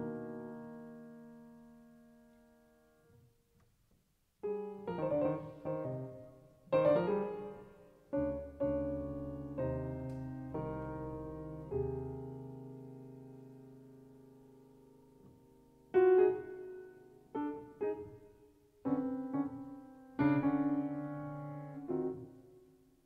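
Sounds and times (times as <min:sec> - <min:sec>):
solo piano chords: 0:00.0 - 0:03.2, 0:04.4 - 0:23.0.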